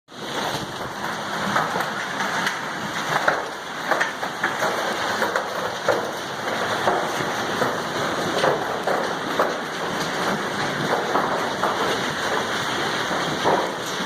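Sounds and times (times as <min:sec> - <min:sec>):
hailstones ticking: 0:00.1 - 0:14.0.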